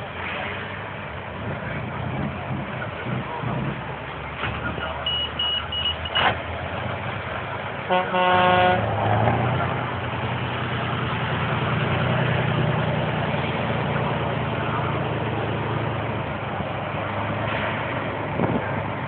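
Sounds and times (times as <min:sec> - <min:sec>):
outdoor noise: 0:00.0 - 0:19.0
truck diesel engine running: 0:00.0 - 0:19.0.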